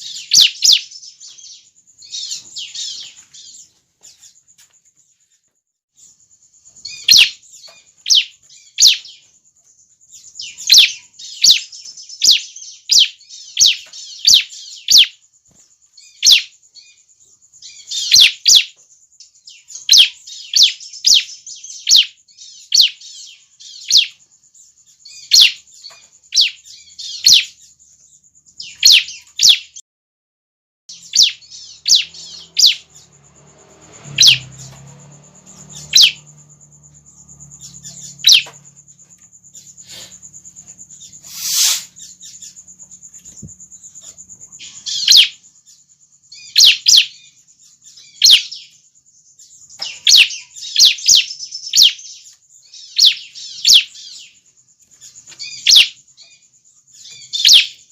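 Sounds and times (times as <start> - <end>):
steady high bird trill: 0.0 - 29.8, 30.9 - 57.9
young birds chirping: 0.0 - 29.8, 30.9 - 57.9.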